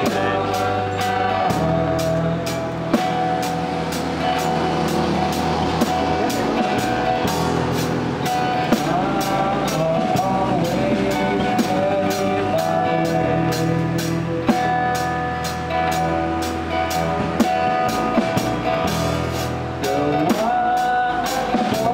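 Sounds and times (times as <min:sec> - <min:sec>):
acoustic guitars strumming: 0:00.0 - 0:21.9
drum kit beat: 0:00.0 - 0:21.9.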